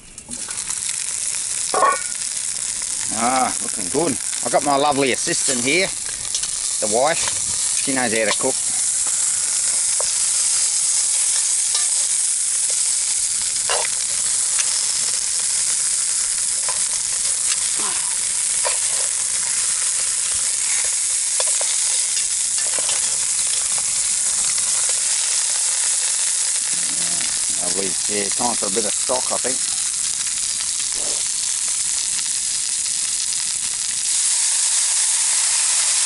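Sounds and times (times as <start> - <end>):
meat sizzling in a pot: 0.0 - 36.0.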